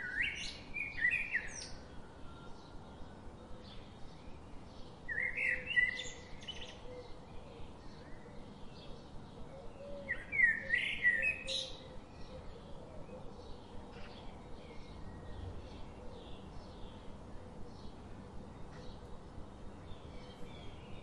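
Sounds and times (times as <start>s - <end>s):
faint steady background noise: 0.0s - 21.0s
songbird chirping and warbling: 0.0s - 21.0s.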